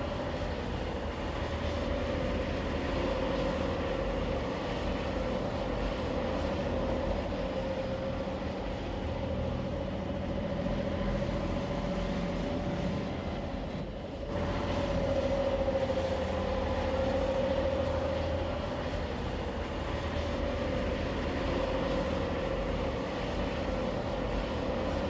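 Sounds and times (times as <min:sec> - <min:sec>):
truck engine rumble with whine: 0:00.0 - 0:25.0.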